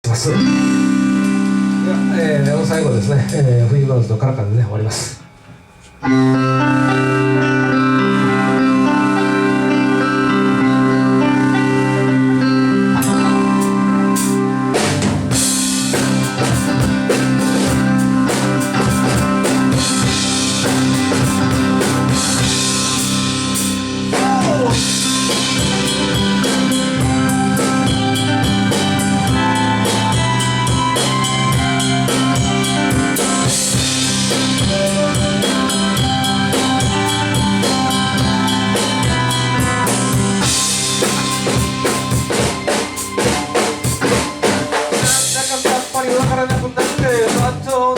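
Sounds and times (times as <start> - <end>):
drum kit: 0.0 - 3.9, 13.0 - 47.9
guitar chords: 0.0 - 4.0, 5.1 - 47.9
keyboard chords: 0.0 - 47.9.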